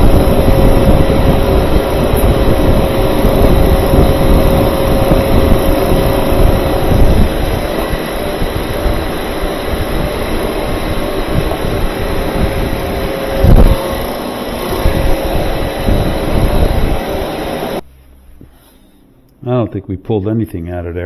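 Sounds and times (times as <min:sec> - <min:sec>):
refrigerant recovery machine humming: 0:00.0 - 0:18.5.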